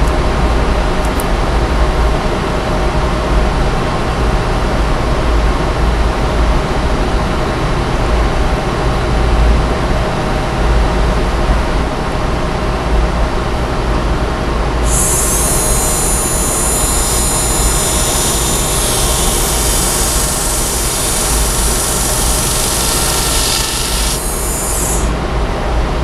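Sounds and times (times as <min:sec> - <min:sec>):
fan rumble and hiss: 0:00.0 - 0:26.0.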